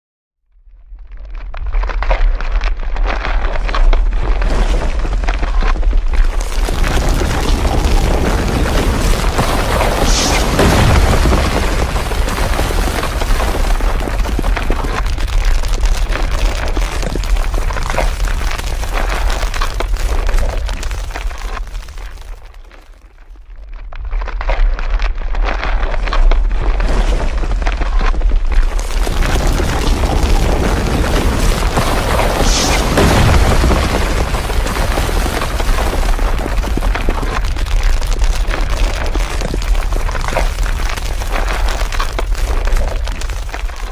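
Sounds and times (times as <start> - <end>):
earthquake rumble: 0.7 - 43.9.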